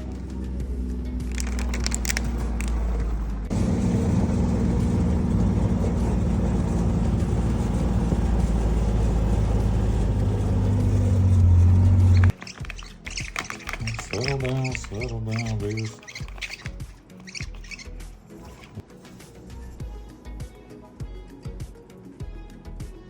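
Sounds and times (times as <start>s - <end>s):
engine humming: 0.0s - 18.8s.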